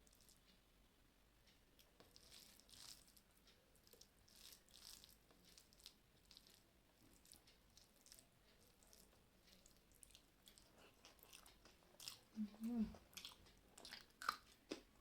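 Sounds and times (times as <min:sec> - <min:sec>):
person chewing food: 0:01.8 - 0:15.0.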